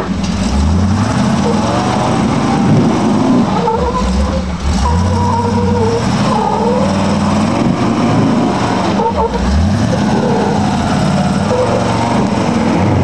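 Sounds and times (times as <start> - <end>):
car engine revving under load: 0.0 - 13.0.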